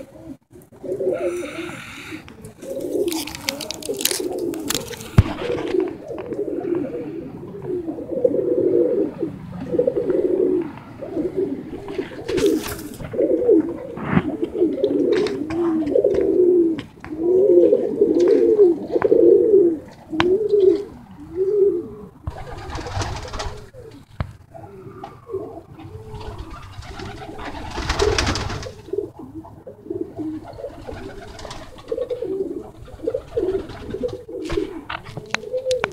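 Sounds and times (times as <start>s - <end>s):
pigeons cooing: 0.0s - 35.9s.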